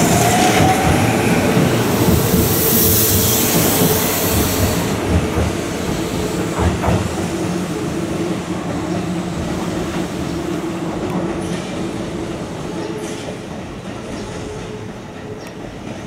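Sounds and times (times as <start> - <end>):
train rolling and hissing: 0.0 - 16.0.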